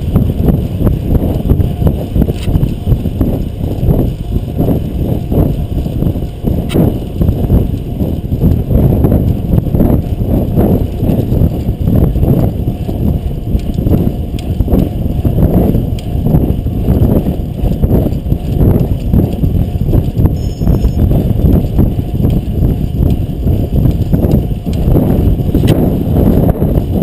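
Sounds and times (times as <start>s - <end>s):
road rumble: 0.0s - 27.0s
wind buffeting microphone: 0.0s - 27.0s.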